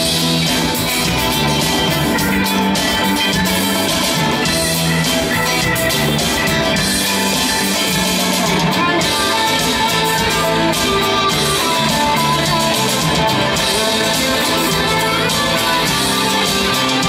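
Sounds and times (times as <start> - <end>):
drum kit playing: 0.0 - 17.0
guitar: 0.0 - 17.0.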